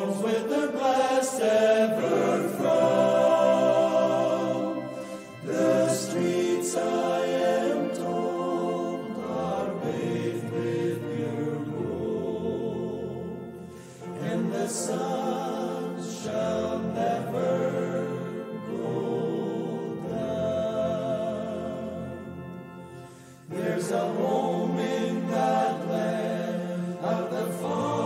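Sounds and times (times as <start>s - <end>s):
male vocal ensemble singing: 0.0s - 28.0s.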